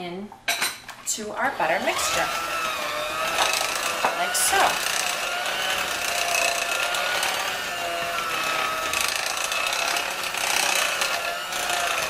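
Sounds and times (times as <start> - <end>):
electric hand mixer whining: 1.5 - 12.0.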